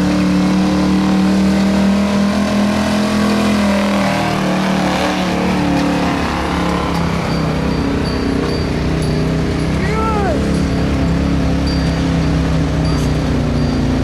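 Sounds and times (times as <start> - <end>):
truck engine running at high revs: 0.0 - 14.0.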